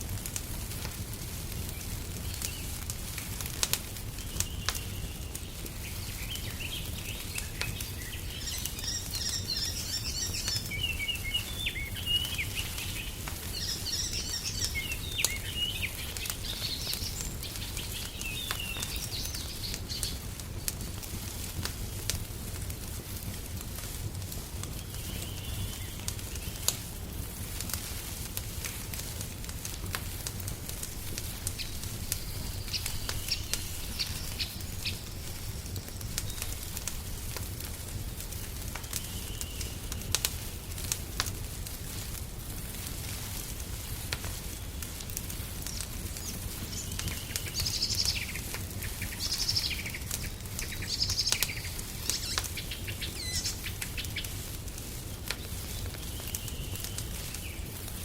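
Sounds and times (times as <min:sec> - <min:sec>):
wood fire crackling and popping: 0:00.0 - 0:58.0
small birds chirping: 0:01.5 - 0:21.2, 0:24.4 - 0:41.0, 0:44.4 - 0:58.0.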